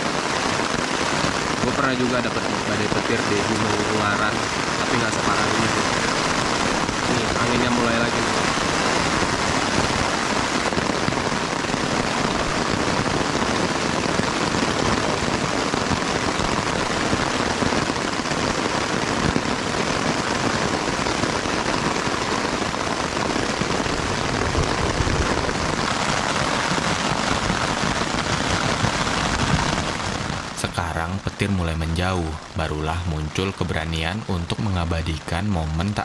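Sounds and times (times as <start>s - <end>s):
gusting wind: 0.0s - 31.4s
heavy rain falling: 0.0s - 36.0s.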